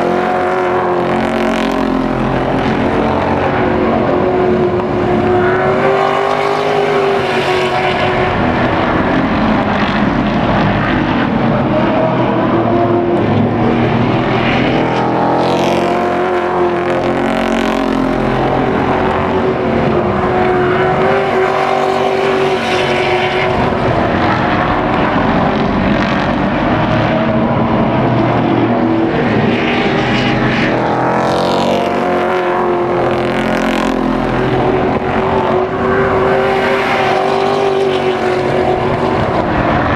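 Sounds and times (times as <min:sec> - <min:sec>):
racing truck engines: 0:00.0 - 0:39.9.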